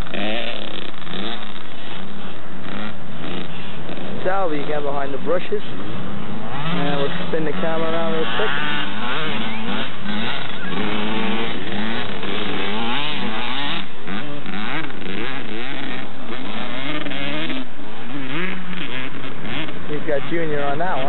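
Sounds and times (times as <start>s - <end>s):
dirt bikes revving: 0.0s - 21.0s.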